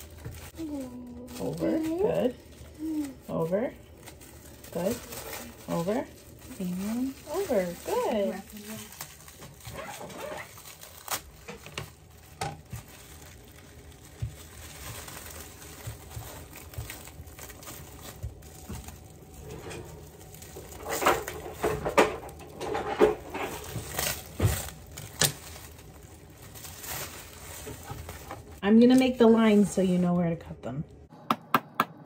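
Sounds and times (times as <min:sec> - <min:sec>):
plastic wrap crinkling: 0:00.0 - 0:30.4.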